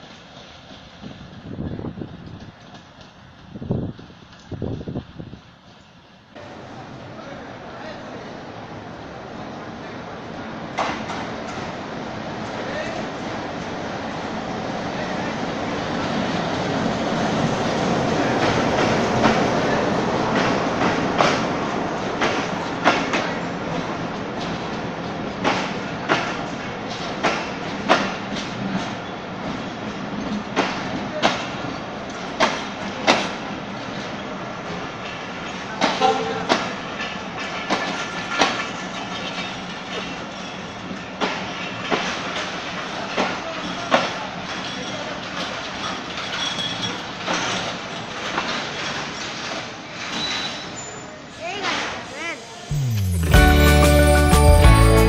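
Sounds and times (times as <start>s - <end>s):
wheels clacking over rail joints: 0.0s - 8.3s, 9.8s - 52.1s
passing train rumble: 0.0s - 46.2s.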